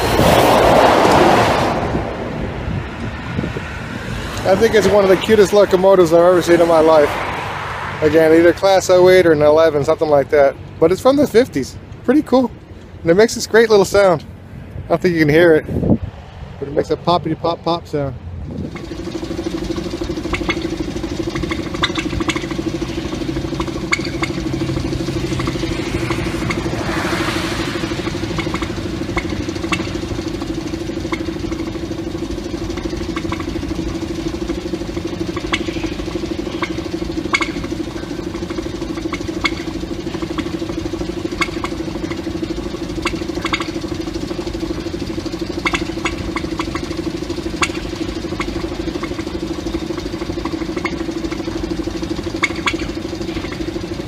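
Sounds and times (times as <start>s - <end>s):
engine popping: 0.0s - 15.5s, 16.6s - 54.0s
diesel locomotive idling: 0.0s - 54.0s.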